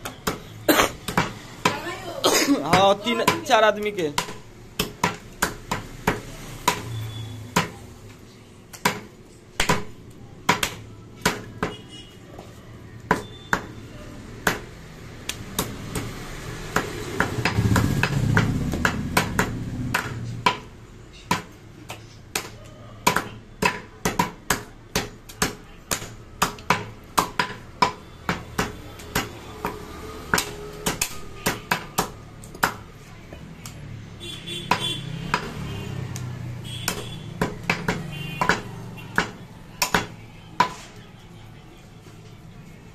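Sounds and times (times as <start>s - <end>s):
cleavers chopping meat and bone: 0.0s - 1.9s, 2.6s - 8.1s, 8.7s - 41.0s.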